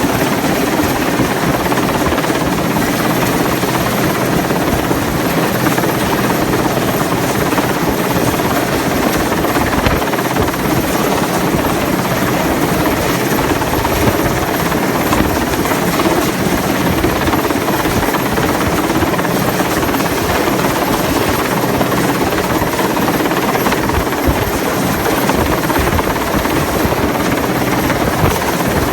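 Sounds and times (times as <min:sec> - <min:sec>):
helicopter rotor and engine: 0:00.0 - 0:28.9.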